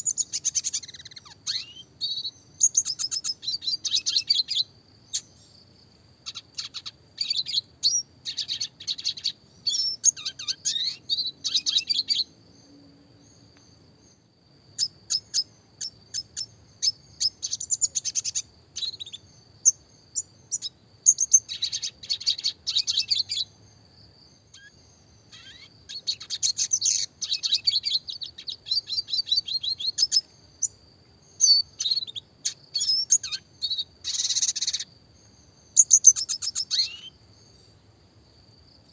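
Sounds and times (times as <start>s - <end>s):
bird twittering and trilling: 0.0s - 5.6s, 6.2s - 23.6s, 24.4s - 37.7s.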